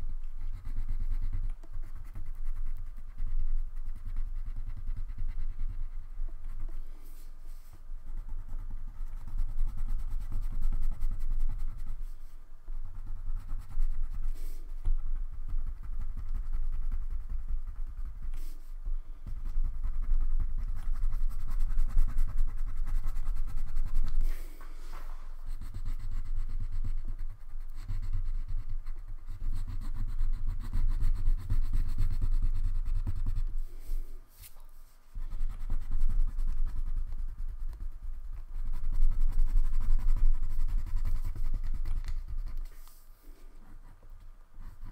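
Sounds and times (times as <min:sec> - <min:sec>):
crayon rubbing on paper: 0:00.0 - 0:44.9.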